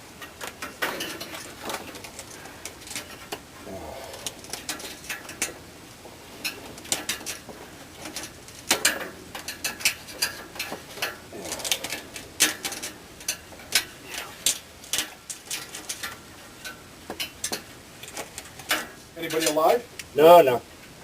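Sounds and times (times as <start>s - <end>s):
metal hemostat clicking and scraping: 0.1s - 20.1s.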